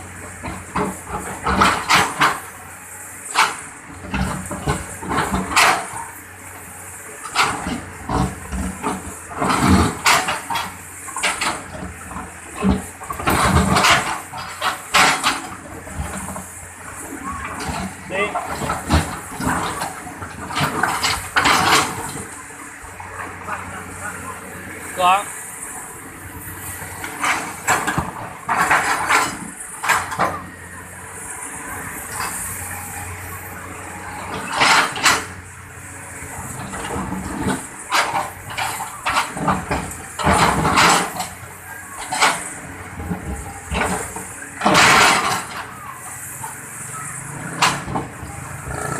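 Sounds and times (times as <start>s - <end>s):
excavator bucket scraping soil: 0.0s - 2.6s, 3.2s - 23.5s, 26.3s - 30.6s, 34.0s - 35.5s, 36.2s - 48.9s.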